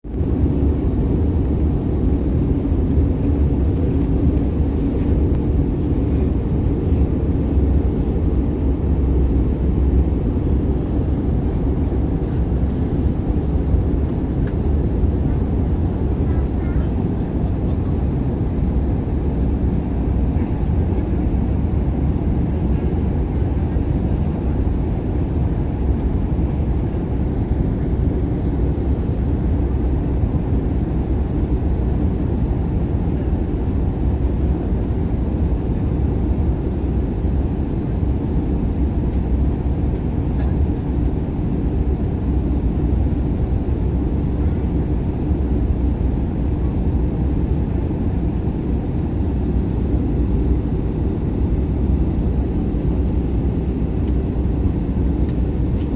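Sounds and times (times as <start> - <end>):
airliner cabin noise: 0.1 - 55.9.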